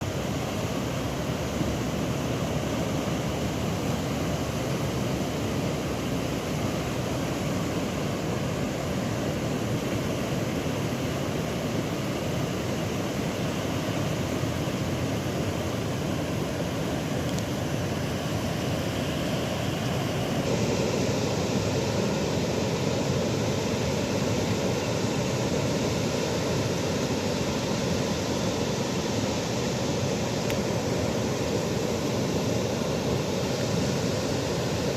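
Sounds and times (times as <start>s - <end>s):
water rushing: 0.0s - 34.9s.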